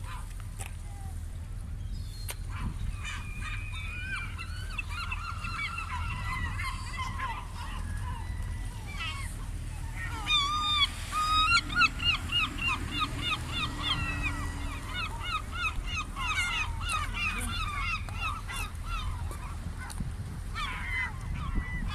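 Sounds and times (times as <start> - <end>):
gulls calling: 0.0 - 21.9
steady low rumble: 0.0 - 21.9.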